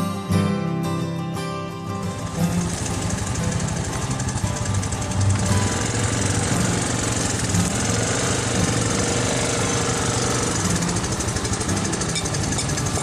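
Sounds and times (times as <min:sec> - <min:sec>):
atv engine running: 0:02.0 - 0:13.0.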